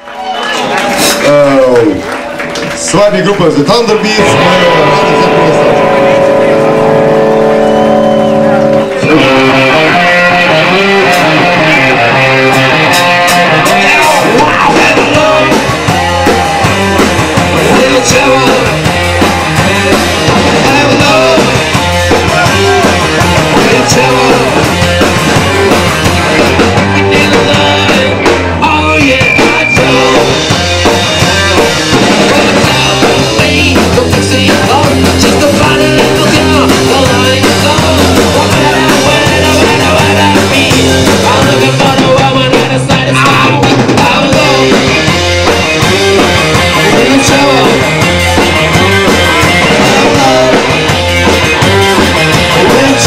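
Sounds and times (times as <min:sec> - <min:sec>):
rock band playing live: 0:00.1 - 0:53.0.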